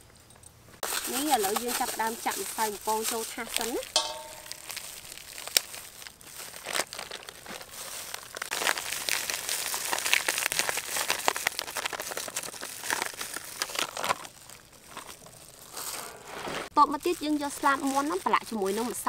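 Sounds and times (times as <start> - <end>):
plastic packet crinkling: 0.8 - 19.0.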